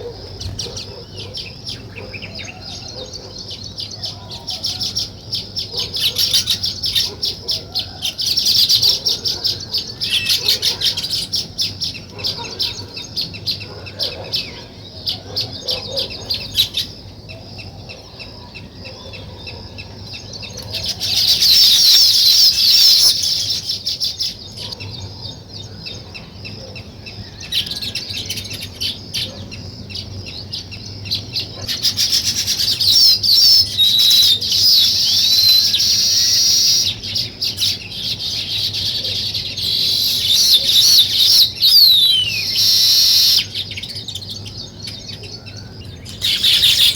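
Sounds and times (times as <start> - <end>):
songbirds chirping and twittering: 0.0 - 46.9.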